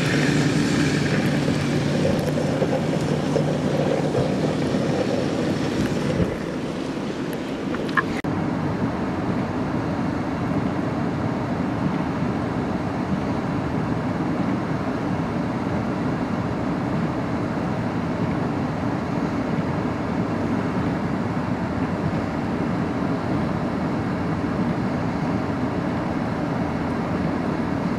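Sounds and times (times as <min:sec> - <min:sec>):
strong wind buffeting microphone: 0:00.0 - 0:27.9.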